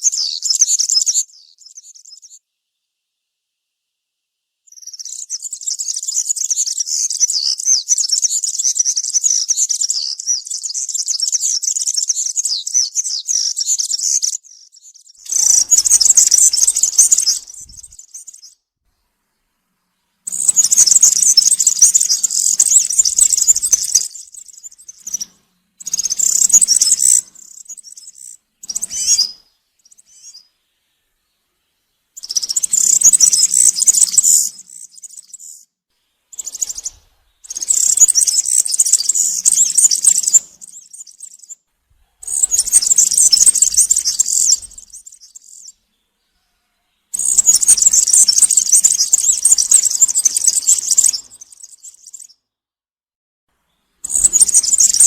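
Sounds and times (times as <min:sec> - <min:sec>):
bird singing high rapid phrases: 0:00.0 - 0:02.4, 0:04.7 - 0:18.6, 0:20.2 - 0:31.2, 0:32.2 - 0:35.7, 0:36.3 - 0:46.2, 0:47.1 - 0:52.4, 0:53.7 - 0:55.0.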